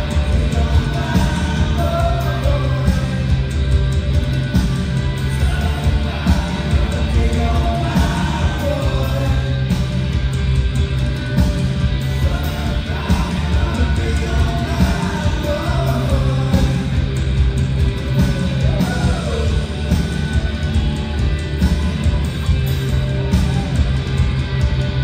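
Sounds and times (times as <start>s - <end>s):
bass guitar line: 0.0s - 25.0s
live rock band: 0.0s - 25.0s.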